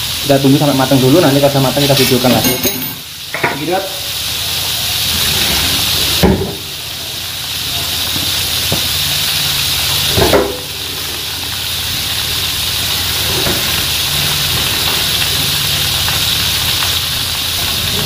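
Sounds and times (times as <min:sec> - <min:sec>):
deep-frying sizzle in hot oil: 0:00.0 - 0:18.0.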